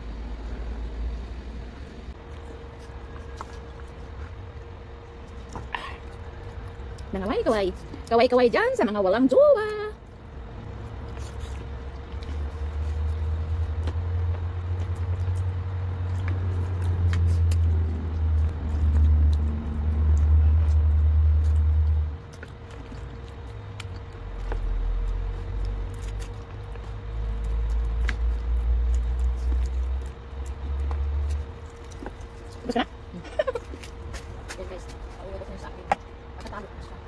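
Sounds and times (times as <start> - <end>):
low rumble: 0.0 - 8.1, 9.9 - 37.0
faint steady hum: 0.0 - 37.0
wet sucking and chewing clicks: 2.1 - 8.2, 10.0 - 35.2.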